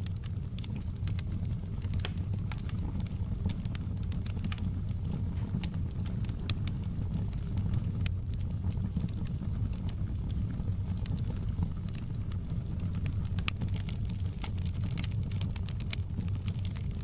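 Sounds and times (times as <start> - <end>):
fire crackles and pops: 0.0 - 17.0
fire rumbling: 0.0 - 17.0.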